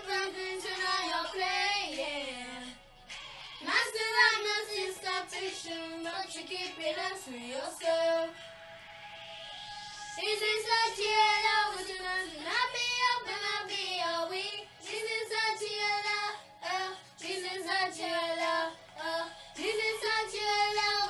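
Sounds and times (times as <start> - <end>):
girls singing together: 0.0 - 8.5, 10.1 - 21.0.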